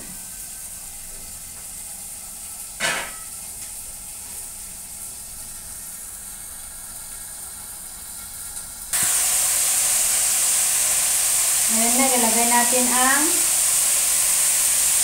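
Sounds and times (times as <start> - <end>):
string beans sizzling in oil: 0.0 - 15.0.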